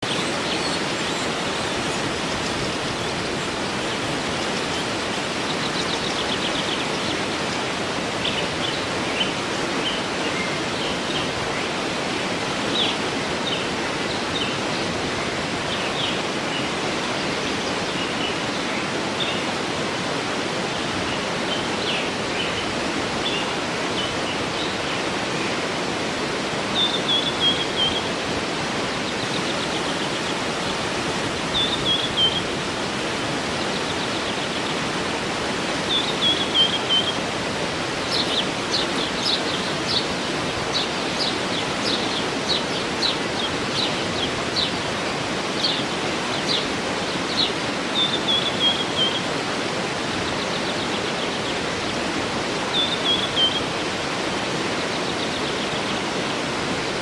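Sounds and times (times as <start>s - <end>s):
birds chirping and trilling: 0.0s - 57.0s
waterfall rushing: 0.0s - 57.0s.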